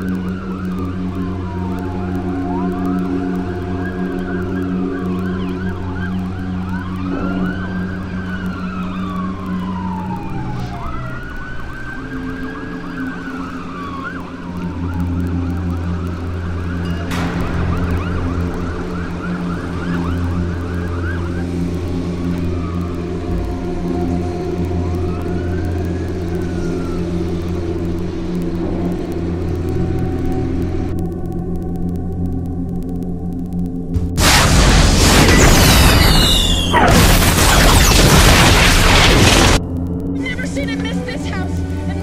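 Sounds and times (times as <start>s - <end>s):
sirens wailing and yelping: 0.0s - 42.0s.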